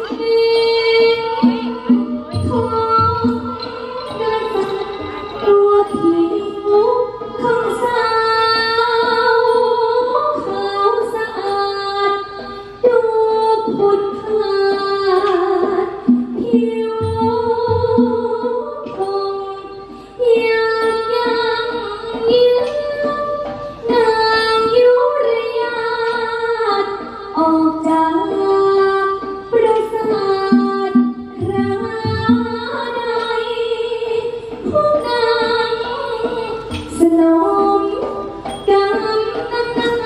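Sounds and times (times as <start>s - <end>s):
musical accompaniment: 0.0s - 40.0s
woman singing: 0.0s - 40.0s.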